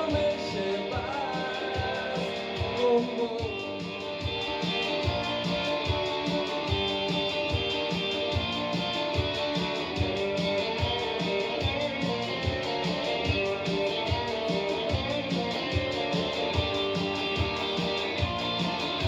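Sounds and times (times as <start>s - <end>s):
electric guitar strumming: 0.0s - 19.0s
low beat: 0.0s - 19.0s.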